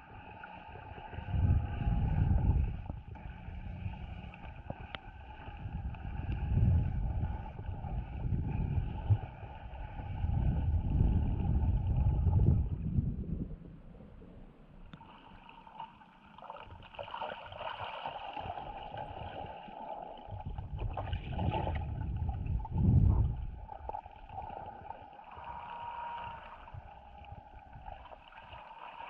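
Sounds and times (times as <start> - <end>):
low water rush: 0.0 - 29.0
water sloshing and gurgling: 0.0 - 29.0.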